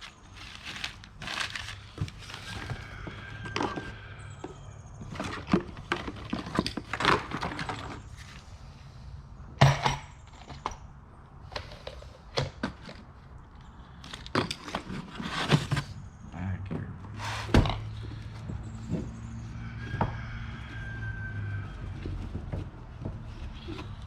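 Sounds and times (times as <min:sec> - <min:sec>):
rummaging through hardware and boxes: 0:00.0 - 0:08.6, 0:09.6 - 0:24.0.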